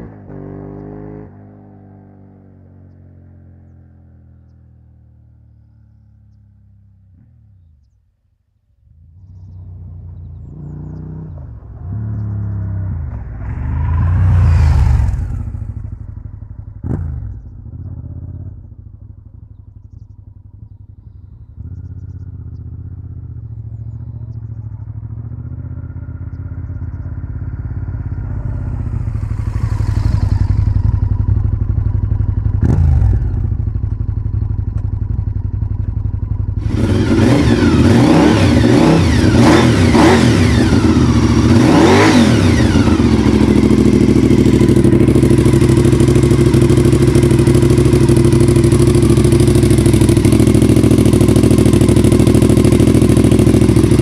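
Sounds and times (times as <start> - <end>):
motorcycle engine revving: 0.0 - 4.2, 8.8 - 54.0
motorcycle engine passing: 8.9 - 54.0.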